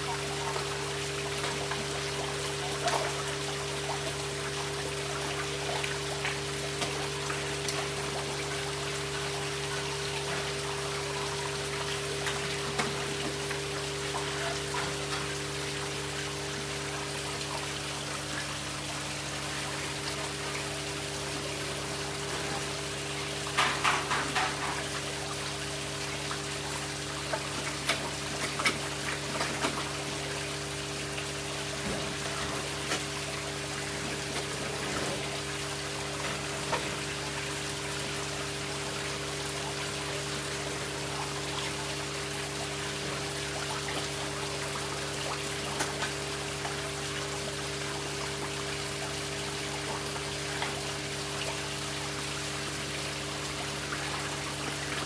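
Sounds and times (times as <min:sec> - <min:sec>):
fish splashing: 0:00.0 - 0:55.0
pond water trickling: 0:00.0 - 0:55.0.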